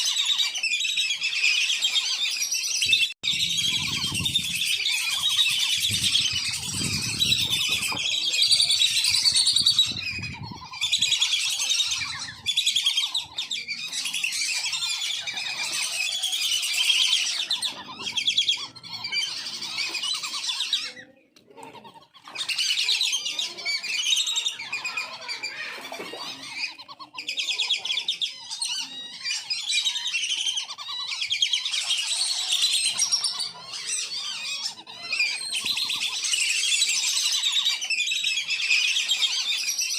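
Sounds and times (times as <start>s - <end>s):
whistling ducks calling: 0.0s - 21.1s, 21.8s - 39.9s.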